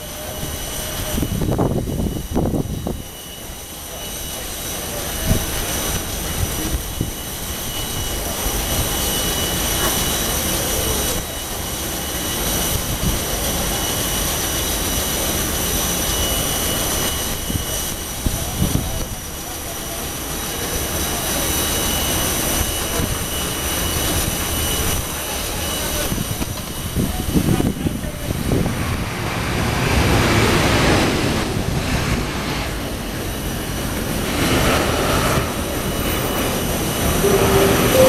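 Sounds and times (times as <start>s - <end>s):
jet engines whining: 0.0s - 38.0s.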